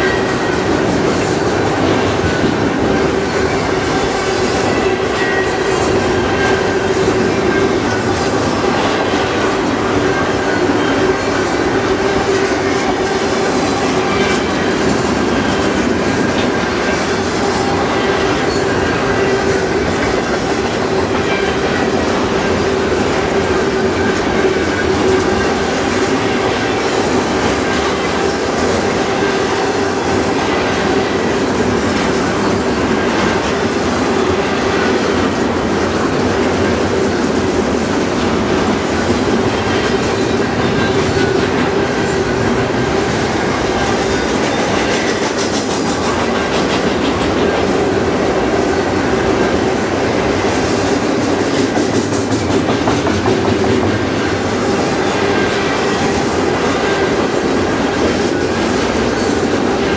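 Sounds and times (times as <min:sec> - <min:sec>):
train wheels clattering over rails: 0:00.0 - 0:59.9.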